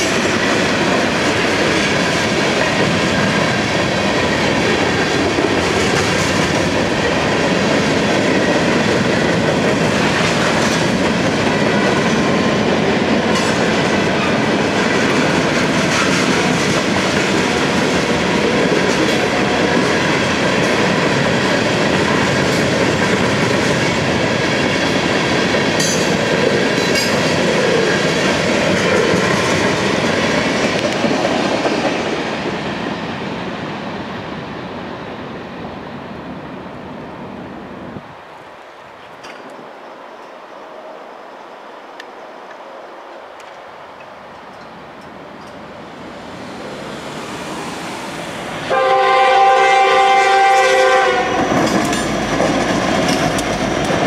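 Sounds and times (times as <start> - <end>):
train wheels rumbling on rails: 0.0 - 40.4, 43.4 - 54.0.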